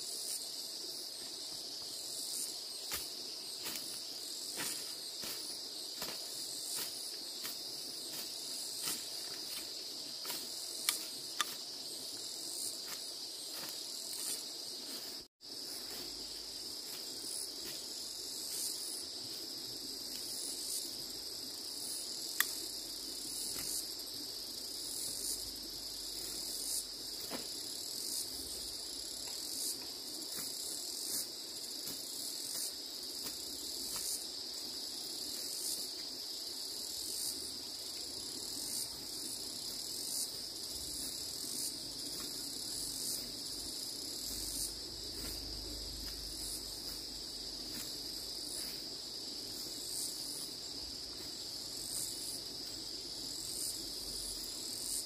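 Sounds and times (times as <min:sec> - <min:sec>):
insect chorus trilling: 0:00.0 - 0:55.0.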